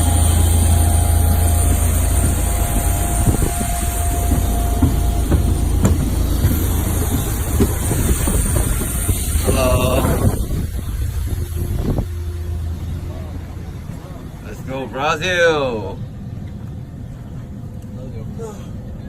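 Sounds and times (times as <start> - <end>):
jet cabin engine rumble: 0.0 - 19.0.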